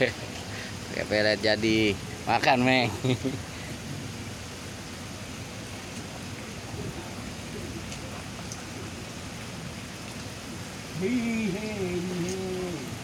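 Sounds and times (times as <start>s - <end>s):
pond water splashing: 0.0s - 13.0s.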